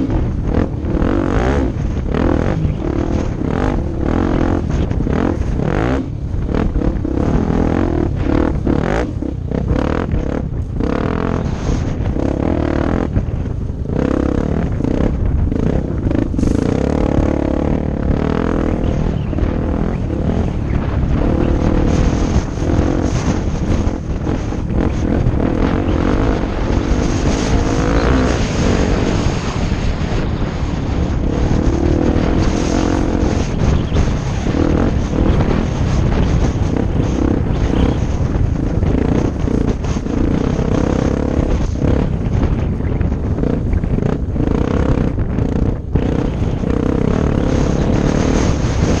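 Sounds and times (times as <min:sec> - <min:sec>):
motorcycle engine running: 0:00.0 - 0:49.0
wind rumble on microphone: 0:00.0 - 0:49.0.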